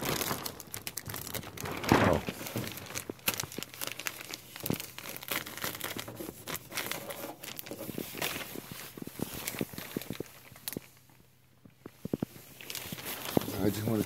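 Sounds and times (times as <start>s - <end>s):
plastic sheeting crinkling: 0.0s - 14.0s.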